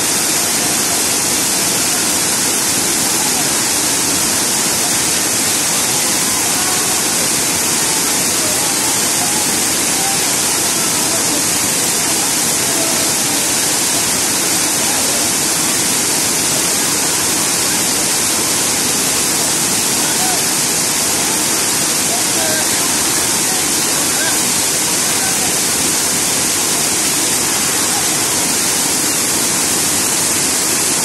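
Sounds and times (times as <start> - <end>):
waterfall rushing over rock: 0.0 - 31.0.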